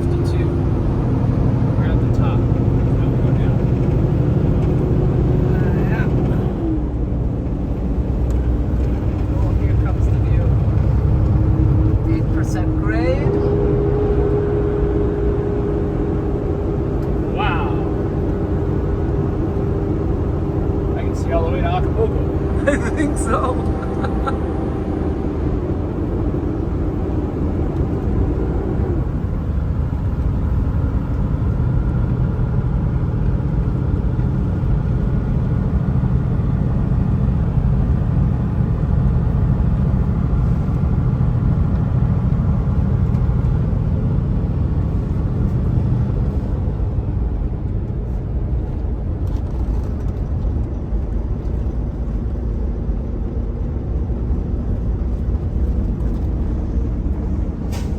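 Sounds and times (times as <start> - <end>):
road noise: 0.0 - 57.9
truck engine rumble: 0.0 - 57.9.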